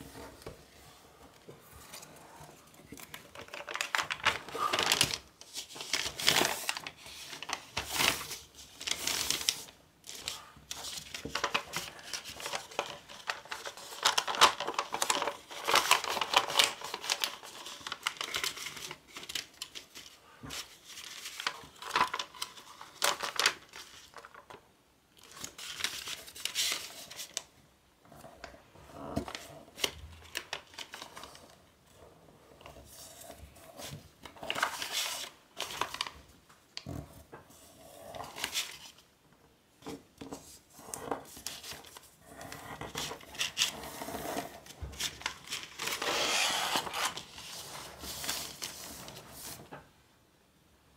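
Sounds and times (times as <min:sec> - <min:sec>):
paper rustling and crinkling: 0:00.0 - 0:24.6, 0:25.2 - 0:27.5, 0:28.9 - 0:37.2, 0:38.1 - 0:39.0, 0:39.8 - 0:49.9.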